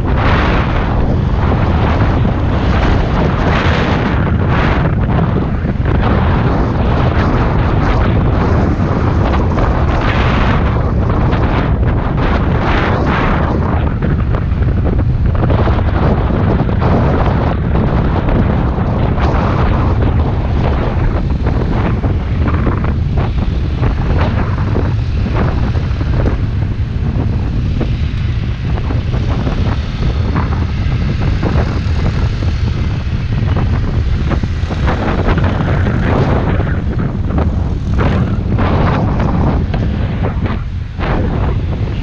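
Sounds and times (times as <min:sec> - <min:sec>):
motorbike engine droning: 0:00.0 - 0:42.0
wind buffeting microphone: 0:00.0 - 0:42.0.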